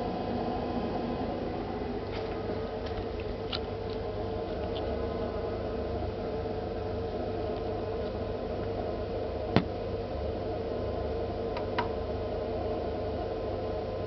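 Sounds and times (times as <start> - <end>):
refrigerator humming: 0.0 - 14.0.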